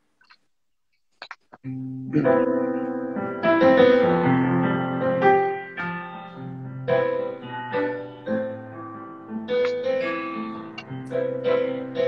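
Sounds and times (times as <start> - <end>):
slow piano chords: 1.7 - 12.0.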